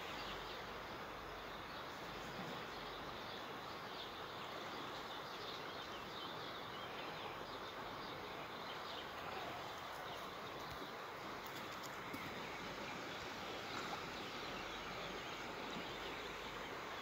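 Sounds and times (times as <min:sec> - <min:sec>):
outdoor background hiss: 0:00.0 - 0:17.0
small birds chirping: 0:00.0 - 0:17.0.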